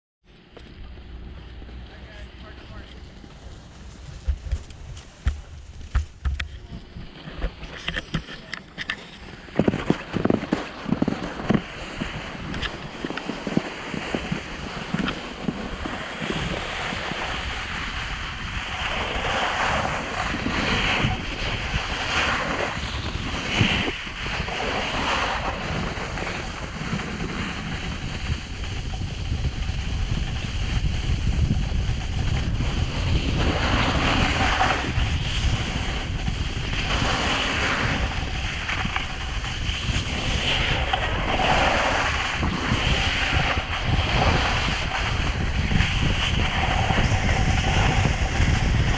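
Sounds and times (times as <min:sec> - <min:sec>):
wind buffeting microphone: 0:00.8 - 0:48.9
snowboard scraping over snow: 0:01.1 - 0:48.9.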